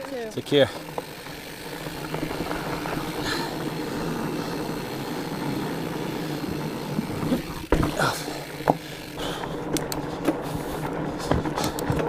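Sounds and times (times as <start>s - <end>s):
knobby tires rolling on dirt: 0.0s - 12.0s.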